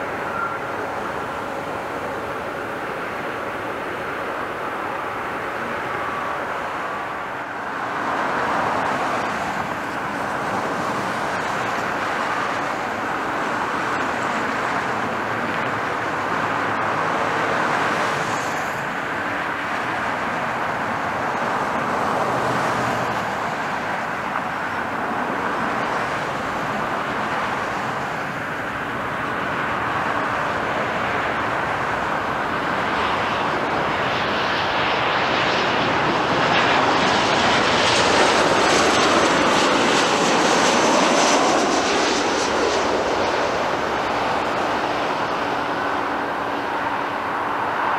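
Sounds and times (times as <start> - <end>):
jet airliner engines: 0.0 - 47.9.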